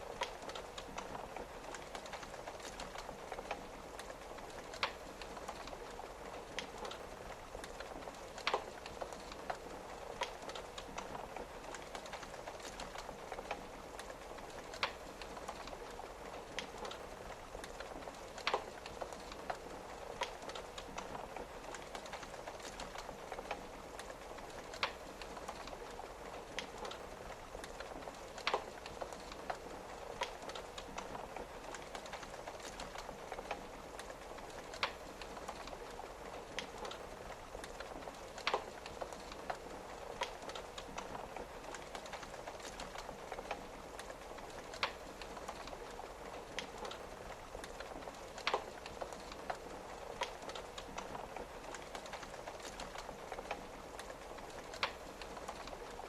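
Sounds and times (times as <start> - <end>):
rain on a window: 0.0 - 56.0
wood fire crackling: 0.0 - 56.0.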